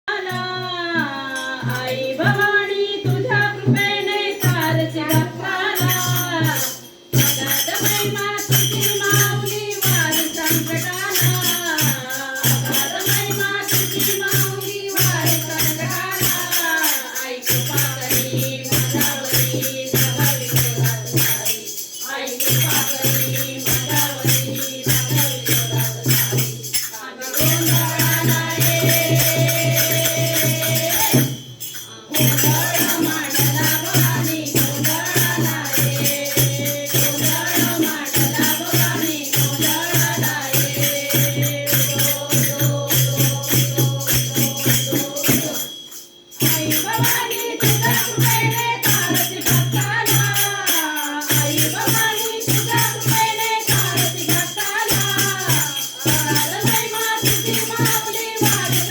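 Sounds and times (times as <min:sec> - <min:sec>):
jingling tambourine percussion: 0:00.0 - 0:58.9
person singing devotional song: 0:00.0 - 0:58.9.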